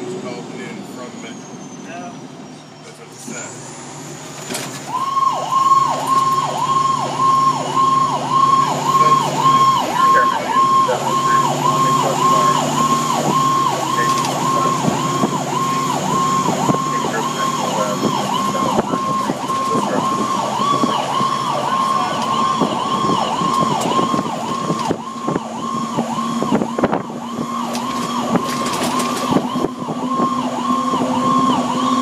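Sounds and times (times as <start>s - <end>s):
truck engine running: 0.0s - 32.0s
fire engine siren wailing: 3.2s - 32.0s.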